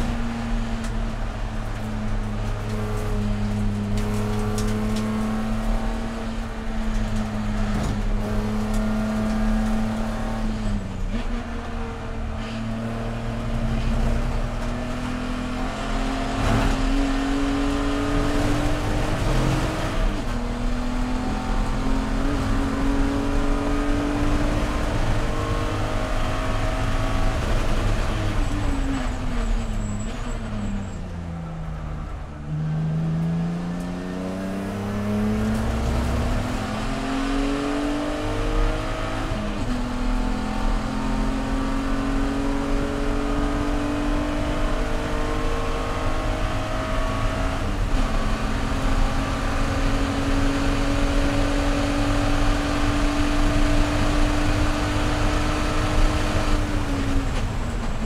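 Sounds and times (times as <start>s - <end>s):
race car engine: 0.0s - 58.0s
road and tyre noise: 0.0s - 58.0s.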